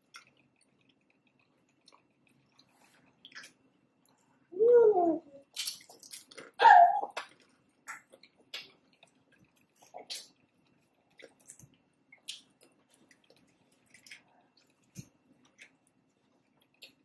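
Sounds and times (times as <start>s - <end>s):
chewing mouth clicks and smacks: 0.0s - 3.6s, 5.5s - 17.0s.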